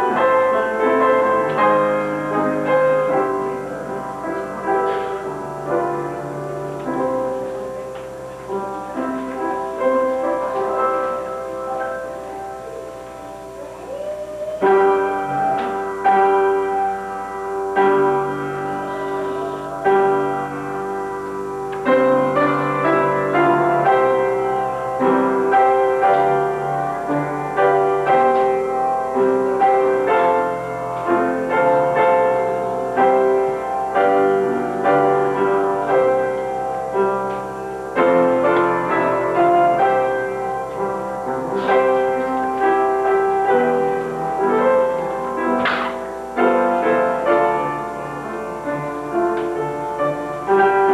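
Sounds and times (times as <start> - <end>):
slow piano piece: 0.0 - 50.9.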